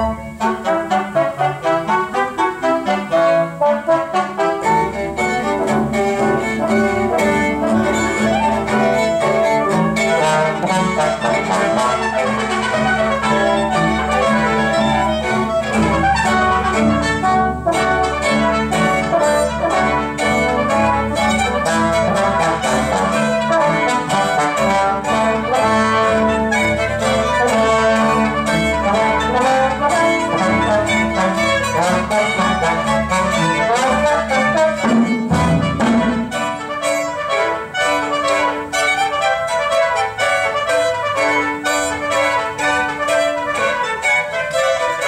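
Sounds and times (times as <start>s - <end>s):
orchestral music with brass and strings: 0.0s - 45.0s.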